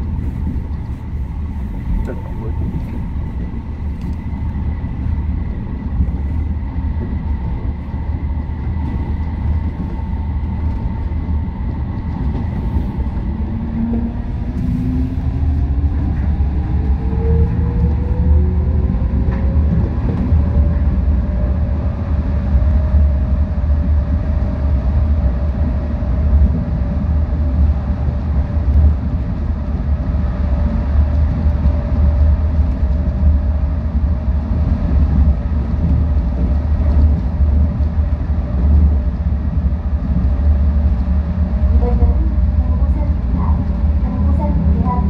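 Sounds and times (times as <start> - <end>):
train low rumble: 0.0 - 45.0.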